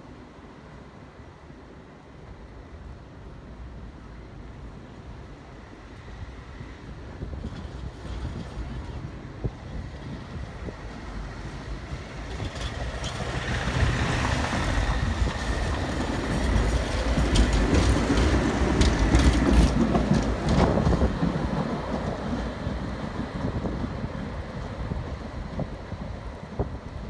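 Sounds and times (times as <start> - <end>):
tram wheels rumbling and clicking: 2.2 - 27.0.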